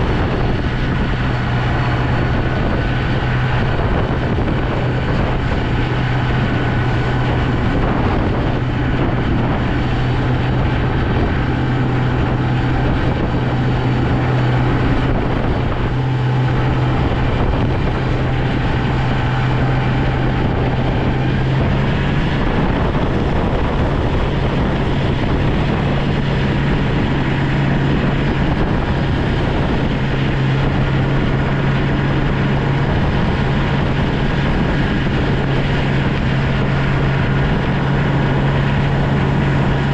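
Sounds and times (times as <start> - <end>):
snow plow engine droning: 0.0 - 39.9.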